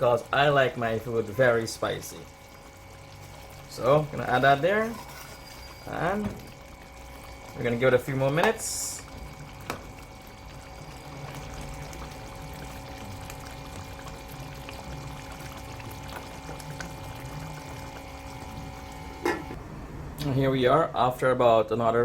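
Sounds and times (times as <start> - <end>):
curry simmering in a pot: 0.0 - 19.6.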